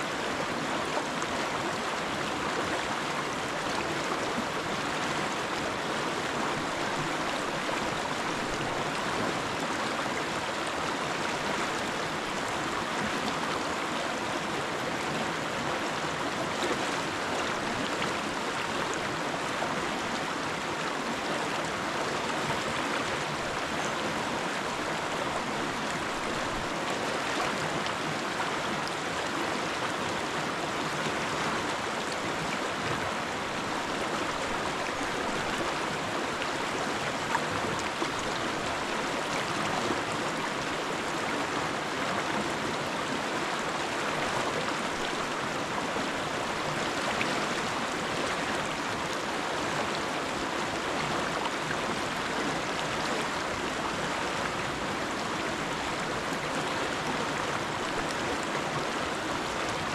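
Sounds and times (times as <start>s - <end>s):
river water rushing over boulders: 0.0s - 59.9s.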